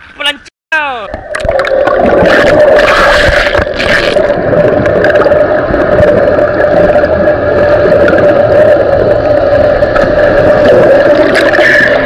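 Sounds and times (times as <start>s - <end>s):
bubbly crackling: 1.1s - 12.0s
underwater steady hum: 1.1s - 12.0s.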